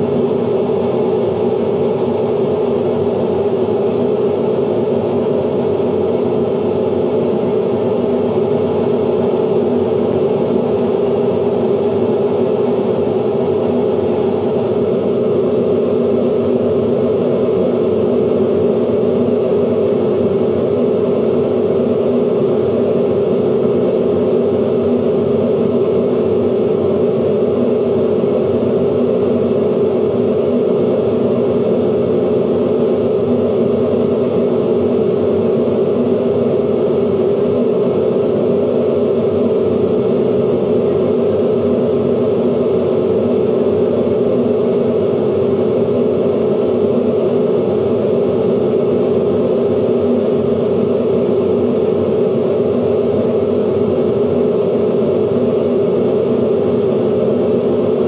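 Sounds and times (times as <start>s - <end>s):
dense noise music drone: 0.0s - 58.0s.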